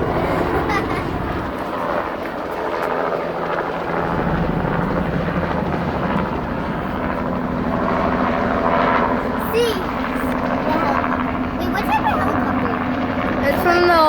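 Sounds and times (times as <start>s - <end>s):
helicopter engine whine: 0.0s - 14.0s
helicopter rotor beating: 0.0s - 14.0s.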